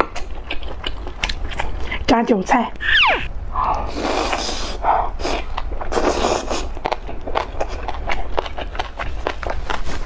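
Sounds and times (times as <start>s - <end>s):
crunchy chewing: 0.0s - 1.8s, 3.7s - 10.0s.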